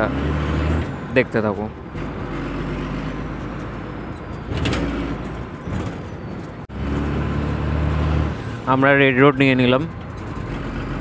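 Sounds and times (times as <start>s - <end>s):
bus engine running: 0.0s - 11.0s
city traffic: 0.0s - 11.0s.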